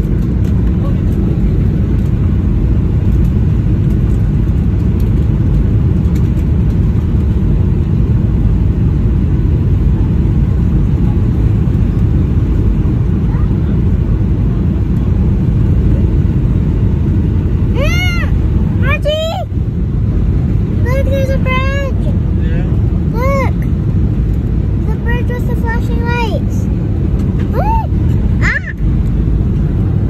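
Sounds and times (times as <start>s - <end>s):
airplane cabin engine noise: 0.0s - 30.0s.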